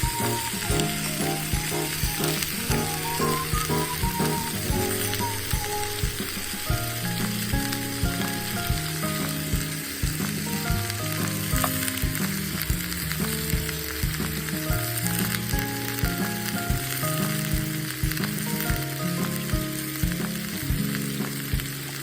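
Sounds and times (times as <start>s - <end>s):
background music with steady beat: 0.0s - 22.0s
sizzling hiss of cooking: 0.0s - 22.0s.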